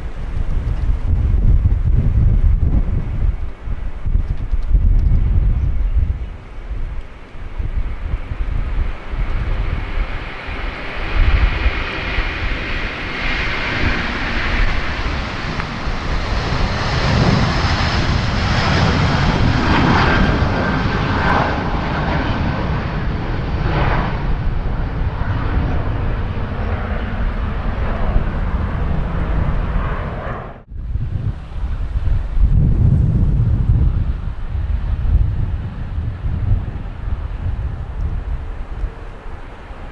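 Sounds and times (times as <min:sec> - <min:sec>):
jet engines at takeoff thrust: 0:00.0 - 0:39.9
wind buffeting microphone: 0:00.0 - 0:39.9.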